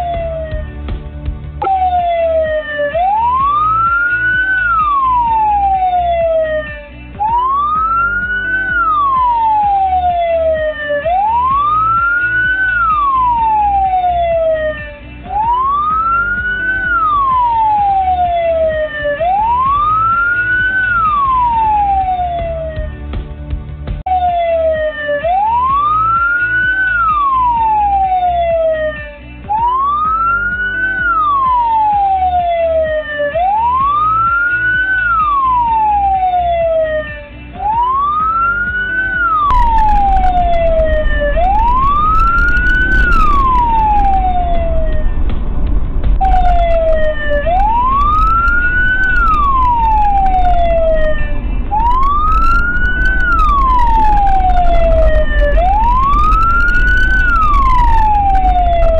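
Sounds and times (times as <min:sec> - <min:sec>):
emergency siren wailing: 0:00.0 - 0:00.8, 0:01.6 - 0:23.0, 0:24.1 - 0:58.9
low road and engine rumble: 0:00.0 - 0:58.9.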